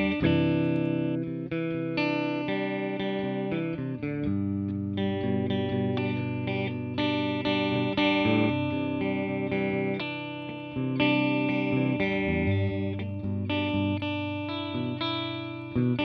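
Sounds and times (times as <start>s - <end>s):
electric guitar ringing chords: 0.0s - 16.0s.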